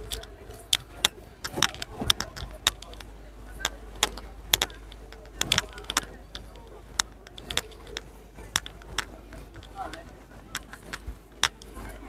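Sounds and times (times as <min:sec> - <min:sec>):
sharp clicks and knocks: 0:00.0 - 0:12.0
steady low rumble: 0:00.0 - 0:12.0.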